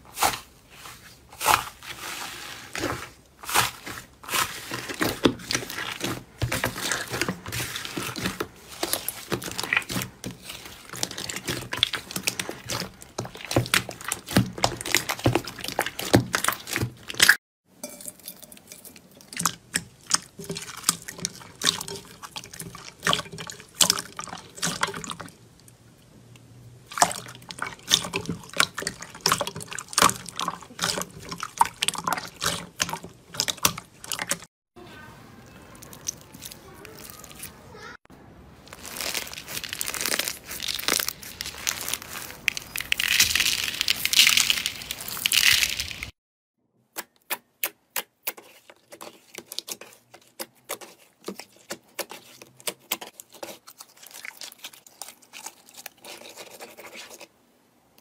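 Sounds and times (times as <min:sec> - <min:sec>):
hands squishing slime: 0:00.0 - 0:17.4, 0:19.0 - 0:25.4, 0:26.9 - 0:34.4, 0:35.5 - 0:37.9, 0:38.6 - 0:46.1, 0:47.2 - 0:57.3
slime stirred in glass bowl: 0:00.0 - 0:25.7, 0:26.9 - 0:34.5, 0:35.4 - 0:37.6, 0:38.6 - 0:46.1, 0:48.0 - 0:57.3.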